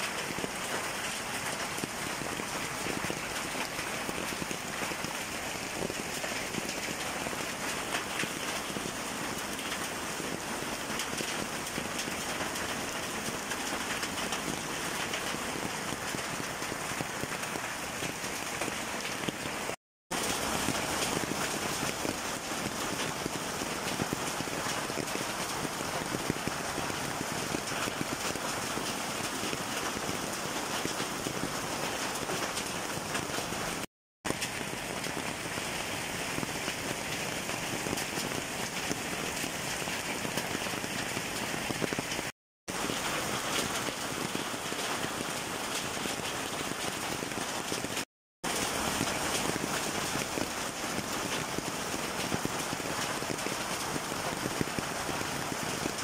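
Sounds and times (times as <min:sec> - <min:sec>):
hail and heavy rain falling: 0:00.0 - 0:56.0.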